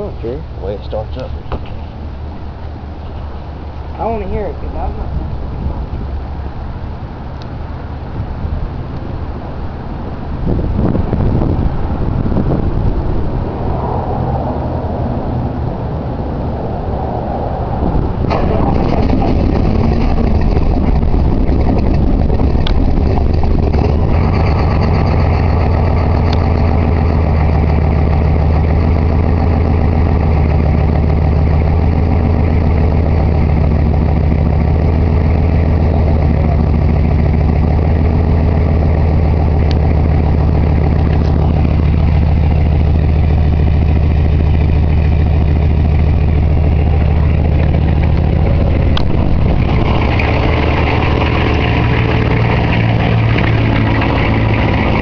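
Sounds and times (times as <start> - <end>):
diesel engine idling: 0.0 - 13.7, 14.4 - 55.0.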